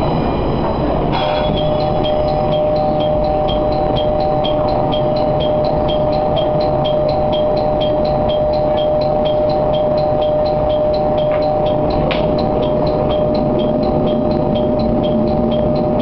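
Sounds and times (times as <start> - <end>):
diesel railcar running: 0.0 - 16.0
two-tone hum: 0.0 - 16.0.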